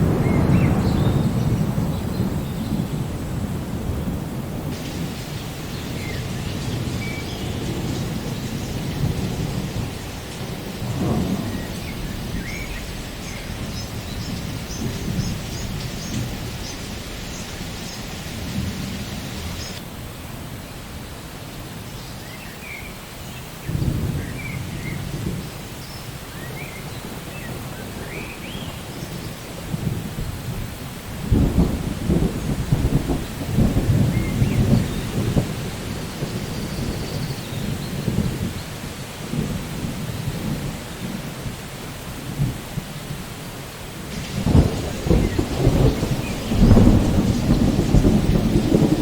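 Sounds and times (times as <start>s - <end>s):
thunder rumbling: 0.0s - 19.8s, 23.7s - 43.0s, 43.9s - 49.0s
steady rain: 0.0s - 49.0s.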